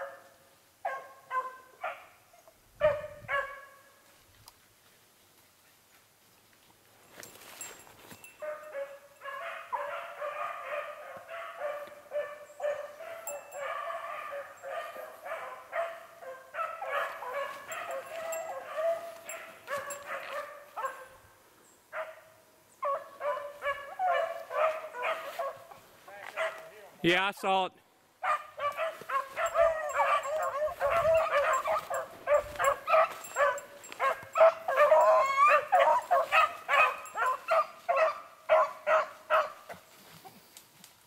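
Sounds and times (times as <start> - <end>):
hounds baying: 0.0 - 3.8, 8.2 - 21.3, 21.9 - 26.8, 28.2 - 39.9.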